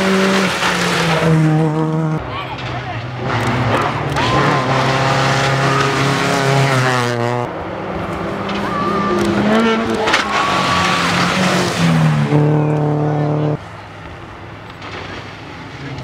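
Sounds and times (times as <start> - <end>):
rally car engine accelerating: 0.0 - 13.6.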